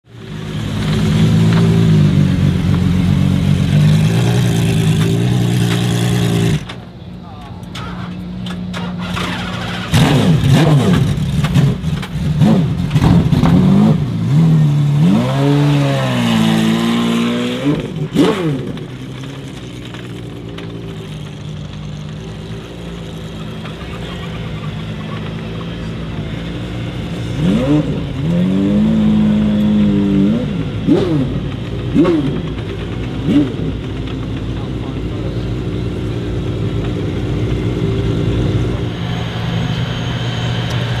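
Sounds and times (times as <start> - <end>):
car engines idling and revving: 0.0 - 41.0.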